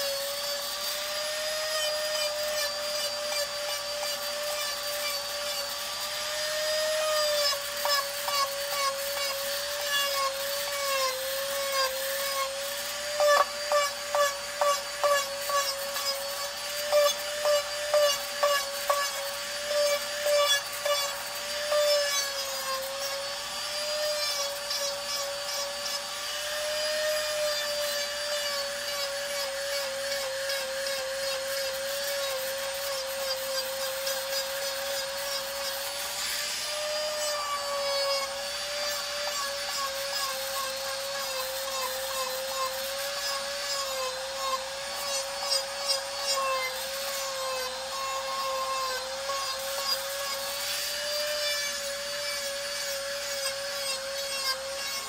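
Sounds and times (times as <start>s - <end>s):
rotary tool grinding plastic: 0.0s - 55.0s.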